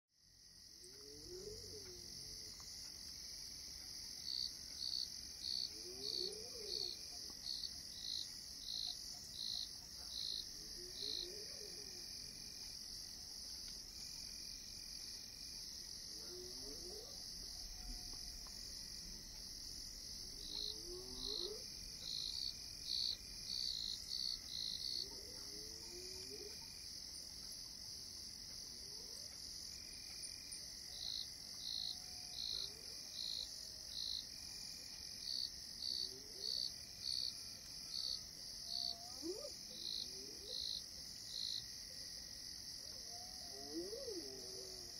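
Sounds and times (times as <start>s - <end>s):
insects droning: 0.2s - 44.9s.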